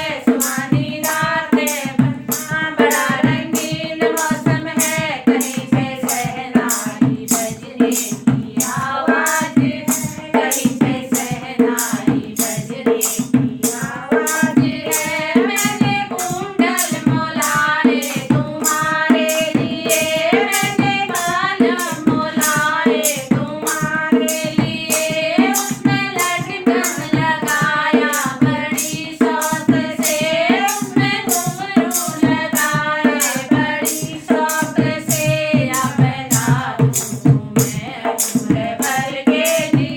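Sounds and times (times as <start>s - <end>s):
hand drum beat: 0.0s - 39.9s
person singing folk song: 0.0s - 39.9s.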